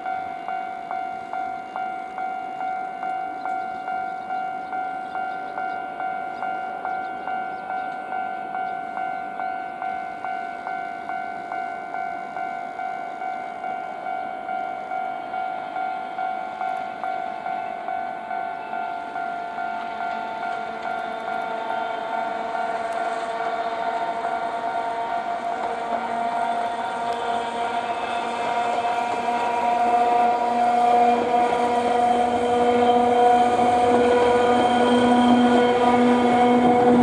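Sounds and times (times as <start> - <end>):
level crossing alarm bell dinging: 0.0 - 37.0
train rolling past: 0.0 - 37.0.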